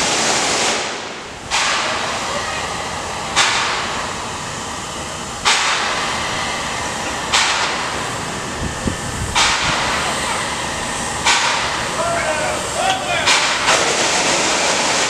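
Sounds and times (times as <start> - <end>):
sharp bursts of steam: 0.0 - 15.0
steam locomotive hissing: 0.0 - 15.0.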